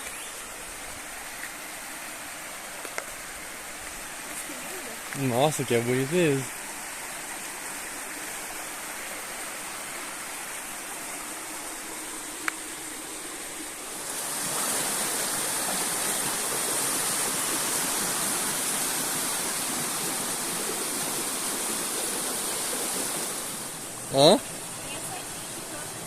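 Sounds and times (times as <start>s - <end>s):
flowing water rushing: 0.0s - 26.0s.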